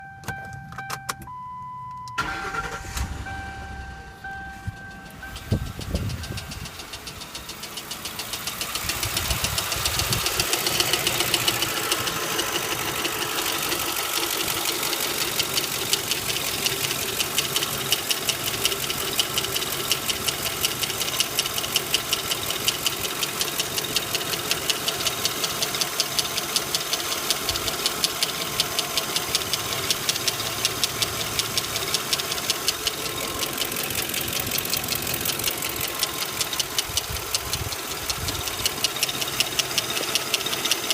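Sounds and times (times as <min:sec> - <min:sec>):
car engine idling: 0:02.2 - 0:40.9
fast even engine ticking: 0:04.3 - 0:40.9.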